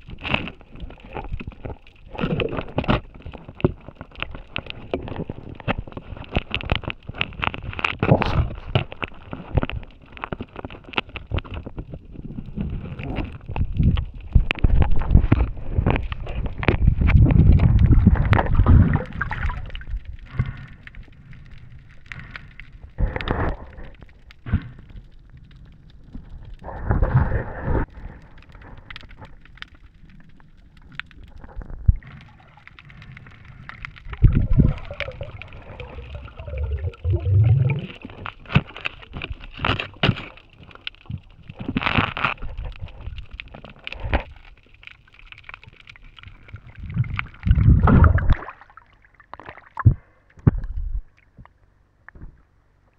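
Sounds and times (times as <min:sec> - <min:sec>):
water gurgling and rushing underwater: 0:00.0 - 0:51.5.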